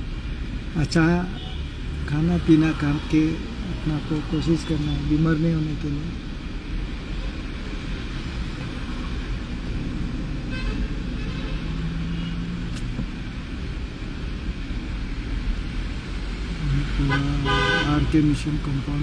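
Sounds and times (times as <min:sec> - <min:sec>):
car engine rumble: 0:00.0 - 0:19.0
tyres on a wet road: 0:00.0 - 0:19.0.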